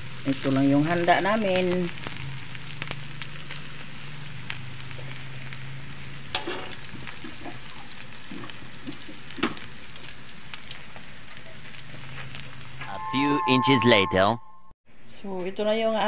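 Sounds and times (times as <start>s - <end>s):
spring rolls sizzling in hot oil: 0.0s - 12.9s.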